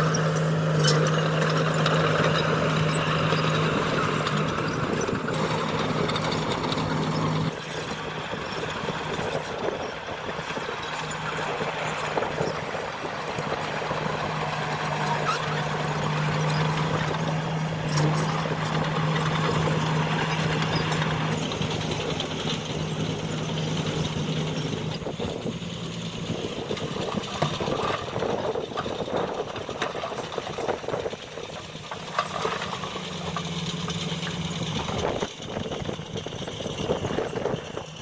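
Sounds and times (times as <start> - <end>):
diesel engine low hum: 0.0 - 38.0.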